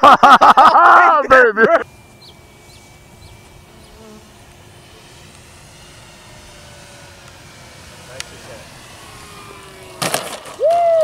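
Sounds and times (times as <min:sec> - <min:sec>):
model plane electric motor whine: 0:01.7 - 0:11.0.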